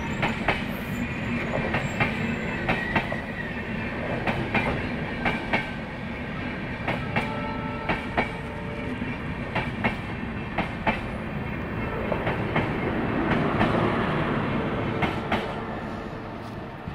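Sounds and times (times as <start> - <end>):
train rumbling on rails: 0.0 - 16.9.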